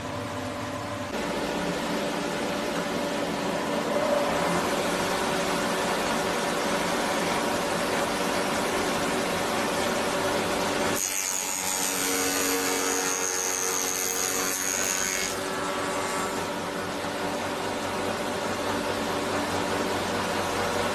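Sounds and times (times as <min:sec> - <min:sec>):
woodworking machine humming: 0:00.0 - 0:20.9.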